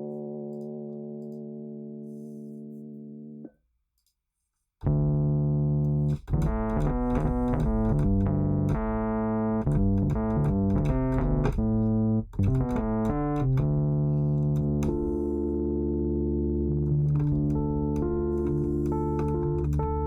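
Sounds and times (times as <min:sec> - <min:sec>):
electric keyboard playing chords: 0:00.0 - 0:03.5, 0:04.9 - 0:20.0.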